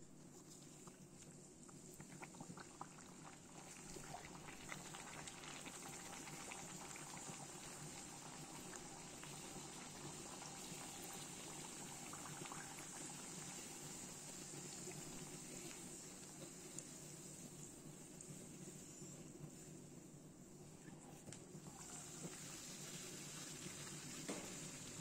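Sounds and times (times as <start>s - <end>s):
dough deep-frying in oil: 0.1s - 25.0s.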